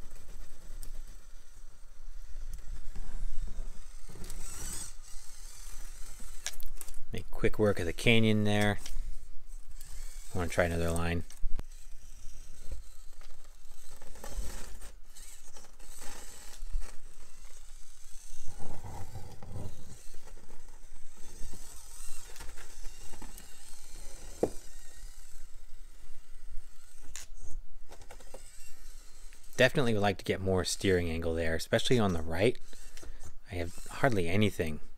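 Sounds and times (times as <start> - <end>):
small motor and gears whirring: 0.0 - 34.9.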